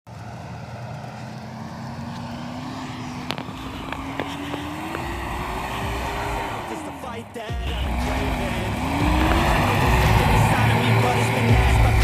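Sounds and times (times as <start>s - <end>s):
engine pulling through snow: 0.1s - 12.0s.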